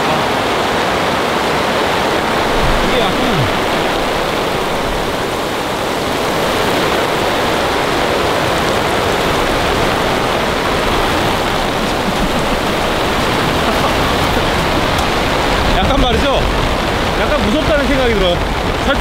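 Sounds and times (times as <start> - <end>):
torrential rain on a tarp: 0.0 - 19.0.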